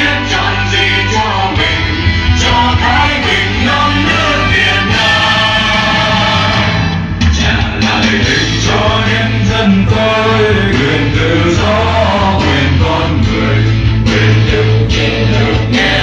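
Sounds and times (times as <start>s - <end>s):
amplified guitar and bass accompaniment: 0.0s - 16.0s
young singers singing together: 0.0s - 16.0s.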